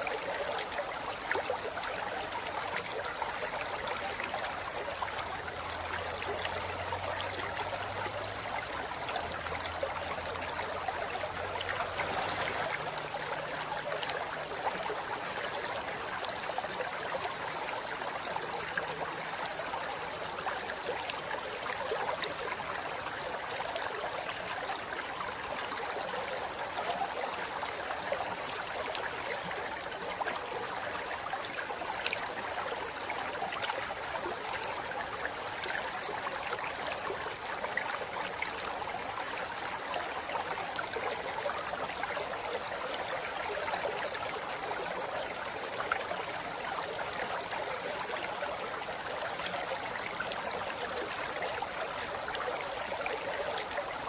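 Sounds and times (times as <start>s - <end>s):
river water over rocks: 0.0s - 54.0s.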